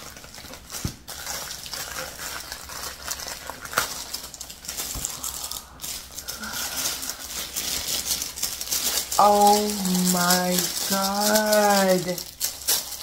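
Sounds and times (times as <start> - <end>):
gift wrapping rustling and crinkling: 0.0 - 13.0.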